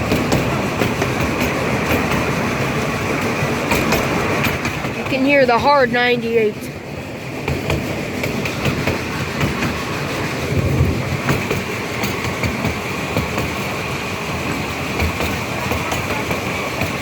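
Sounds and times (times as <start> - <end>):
steam locomotive running: 0.0 - 17.0
wheels clicking over rail joints: 0.0 - 17.0.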